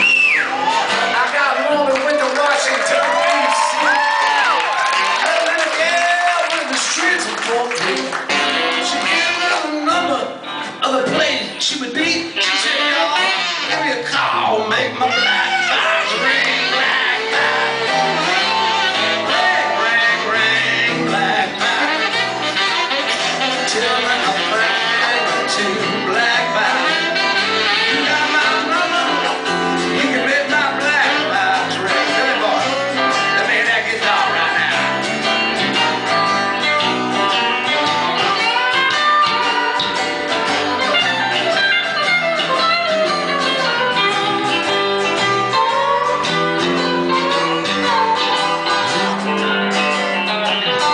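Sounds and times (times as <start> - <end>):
electric guitar: 0.0 - 1.4, 2.9 - 50.9
blues band playing: 0.0 - 50.9.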